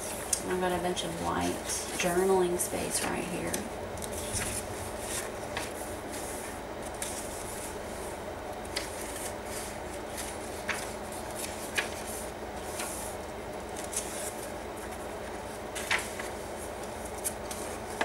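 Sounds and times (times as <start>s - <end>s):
steady low hum: 0.0s - 18.0s
paper pages rustling: 3.0s - 8.0s, 8.6s - 18.0s.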